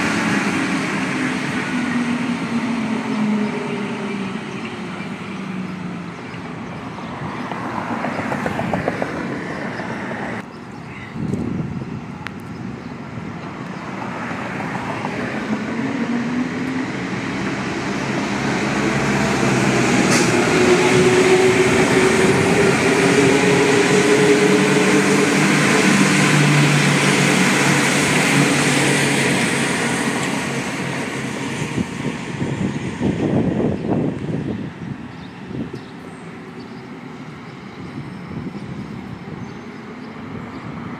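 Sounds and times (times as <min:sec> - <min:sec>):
metro train passing: 0:00.0 - 0:40.9.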